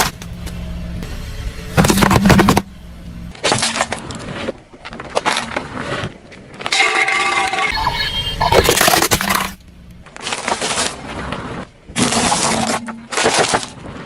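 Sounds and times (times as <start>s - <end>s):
objects crunching under car tyres: 1.7s - 14.0s.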